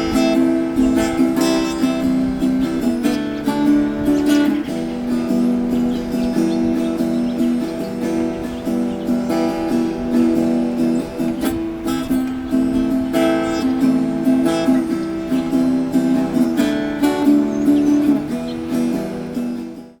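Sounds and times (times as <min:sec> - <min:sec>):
strummed acoustic guitar: 0:00.0 - 0:20.0.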